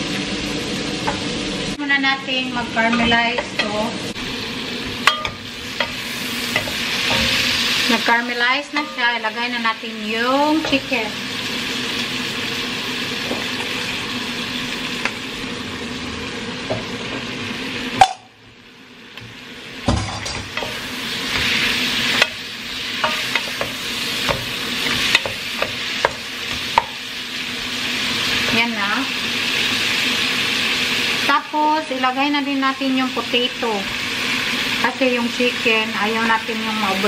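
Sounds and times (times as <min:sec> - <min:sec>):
chicken frying in pot: 0:00.0 - 0:37.0
vegetables sizzling in oil: 0:00.0 - 0:37.0.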